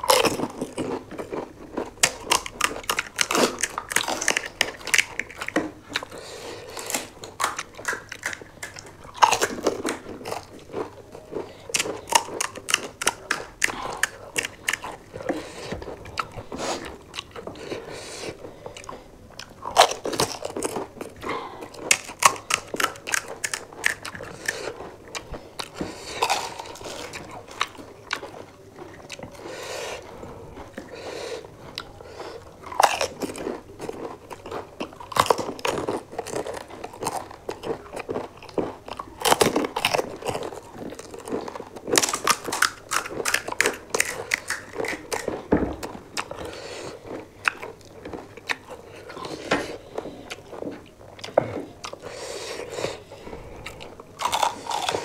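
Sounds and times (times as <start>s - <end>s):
crunchy shells being bitten and chewed: 0.0s - 55.0s.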